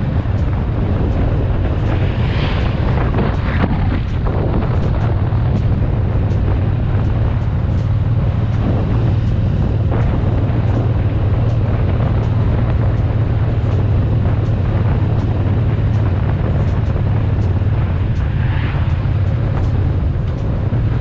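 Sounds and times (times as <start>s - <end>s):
motorcycle engine droning: 0.0s - 21.0s
wind and road rush: 0.0s - 21.0s.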